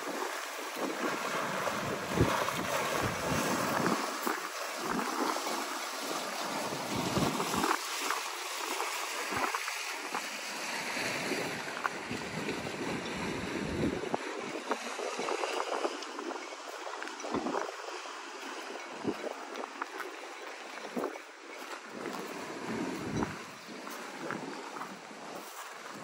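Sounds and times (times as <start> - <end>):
wind buffeting microphone: 0.0 - 10.3, 11.0 - 26.0
waves slapping against stone pier: 0.0 - 26.0.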